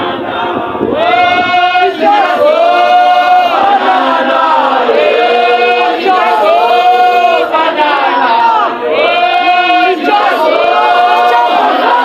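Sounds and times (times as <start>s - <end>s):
voices singing along: 0.0s - 12.0s.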